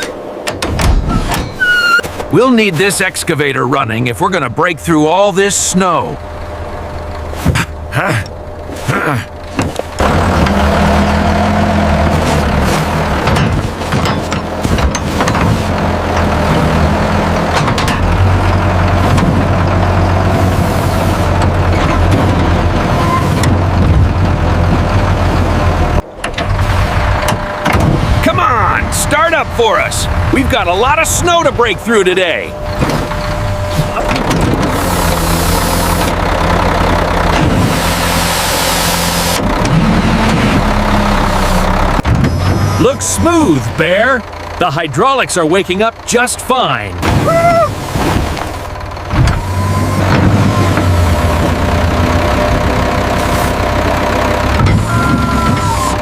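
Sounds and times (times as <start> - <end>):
construction machine engine rumbling: 0.0 - 56.0.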